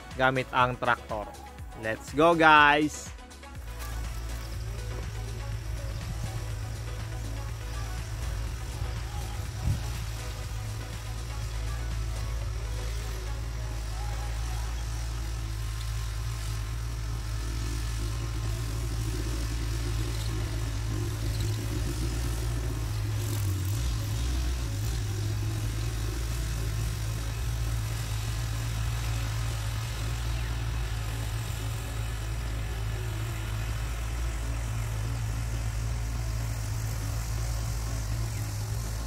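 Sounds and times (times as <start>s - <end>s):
distant tractor engine running: 0.0s - 39.0s.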